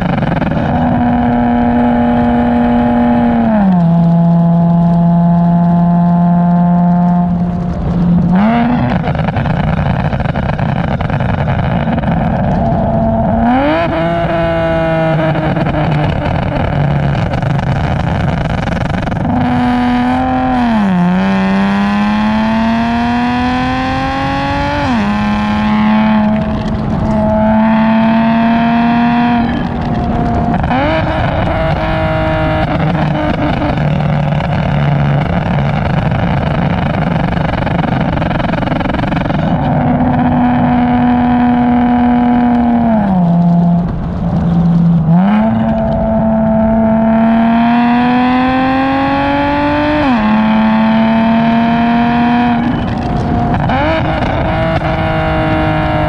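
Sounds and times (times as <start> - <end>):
car engine accelerating: 0.0 - 56.0
tyre and wind noise: 0.0 - 56.0.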